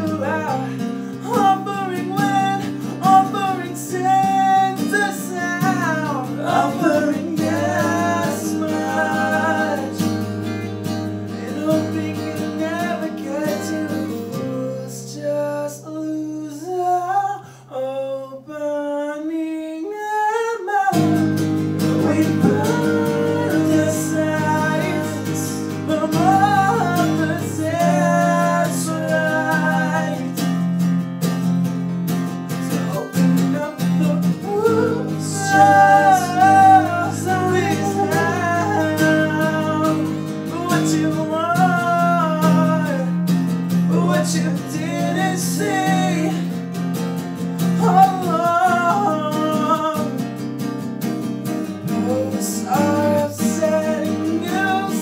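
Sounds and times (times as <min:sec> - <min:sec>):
man singing: 0:00.0 - 0:30.7, 0:32.6 - 0:46.7, 0:47.6 - 0:50.4, 0:51.8 - 0:55.0
acoustic guitars: 0:00.0 - 0:55.0.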